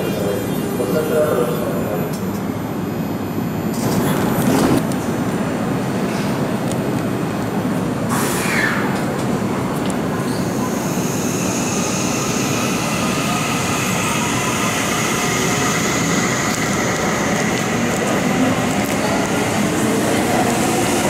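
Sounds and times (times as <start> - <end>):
high whine of train motors: 0.0 - 21.0
train wheels rumbling on rails: 3.7 - 21.0.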